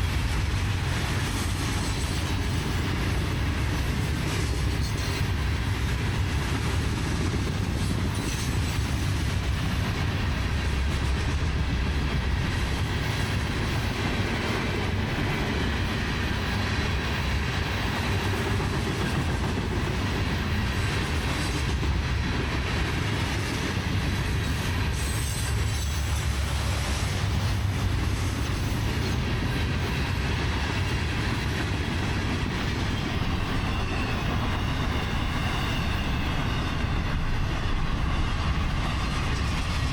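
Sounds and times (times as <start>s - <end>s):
freight train cars rolling: 0.0s - 39.9s
wheels clickety-clack on rails: 0.0s - 39.9s.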